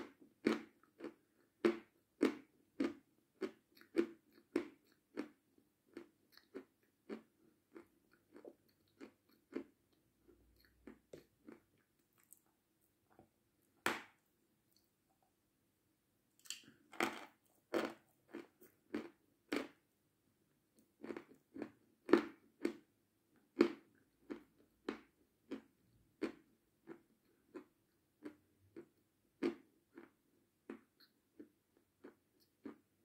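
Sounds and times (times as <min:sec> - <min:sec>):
crunching and chewing: 0:00.0 - 0:12.6, 0:16.4 - 0:19.8, 0:20.8 - 0:33.0.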